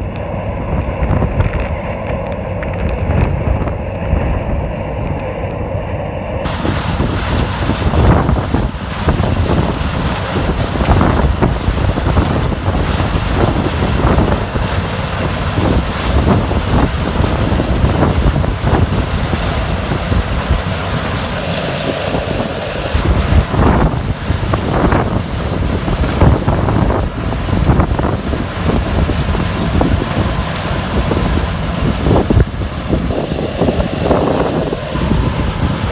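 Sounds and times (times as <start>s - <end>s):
harvesting machinery running: 0.0s - 35.9s
wind buffeting microphone: 0.0s - 35.9s.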